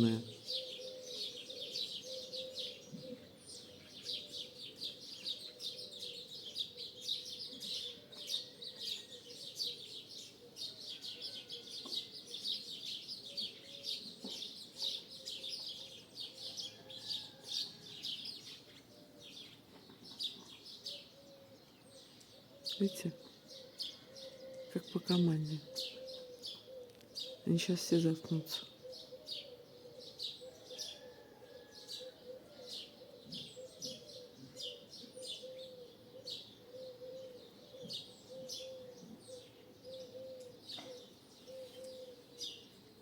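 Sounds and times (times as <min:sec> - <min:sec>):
starlings chattering and whistling: 0:00.0 - 0:17.4, 0:18.4 - 0:43.0
dove cooing faintly: 0:00.0 - 0:18.0, 0:18.8 - 0:43.0.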